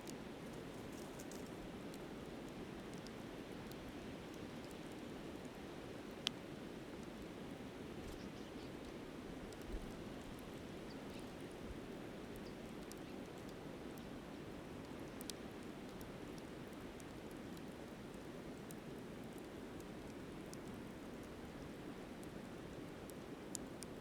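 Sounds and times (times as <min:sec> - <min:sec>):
campfire crackling and popping: 0:00.0 - 0:07.8, 0:08.7 - 0:24.0.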